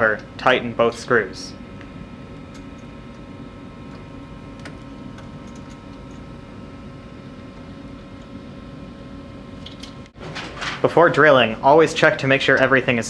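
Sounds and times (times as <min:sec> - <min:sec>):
low workshop hum: 0:00.0 - 0:13.0.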